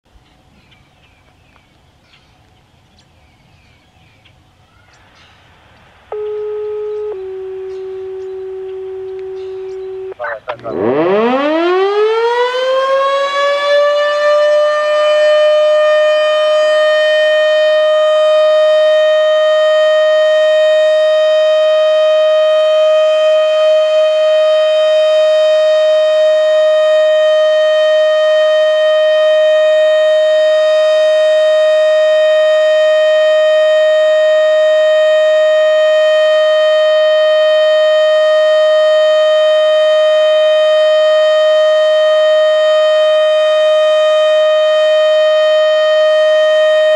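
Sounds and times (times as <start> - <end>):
warning siren steady tone: 5.6 - 46.9.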